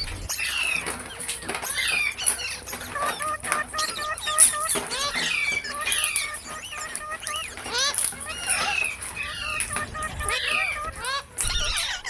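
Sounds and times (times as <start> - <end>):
parrot clucking notes: 0.0 - 12.0
parrot squawking and whistling: 0.0 - 12.0.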